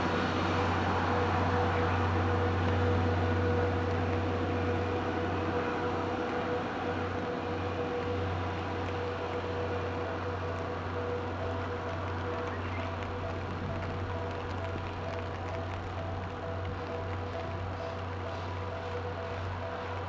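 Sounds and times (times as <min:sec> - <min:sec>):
steam train low hum: 0:00.0 - 0:20.0
train rumble: 0:00.0 - 0:20.0.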